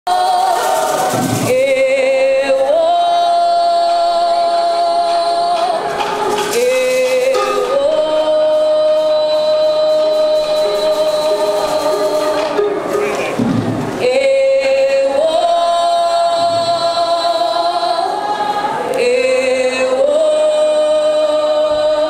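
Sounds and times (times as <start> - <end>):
person singing into microphone: 0.1 - 22.0.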